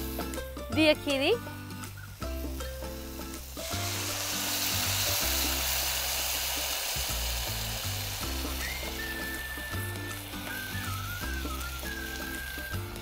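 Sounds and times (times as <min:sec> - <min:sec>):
liquid sizzling in hot pan: 0:00.0 - 0:00.6, 0:01.4 - 0:13.0
background music: 0:00.0 - 0:13.0.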